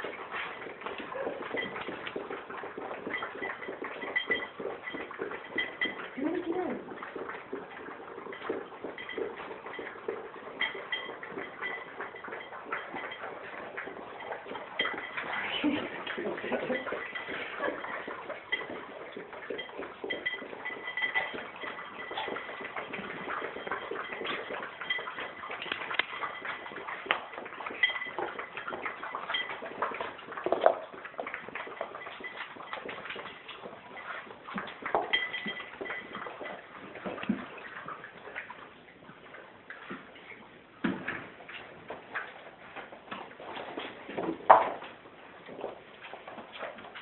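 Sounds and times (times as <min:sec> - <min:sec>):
puppies lapping water: 0:00.0 - 0:47.0.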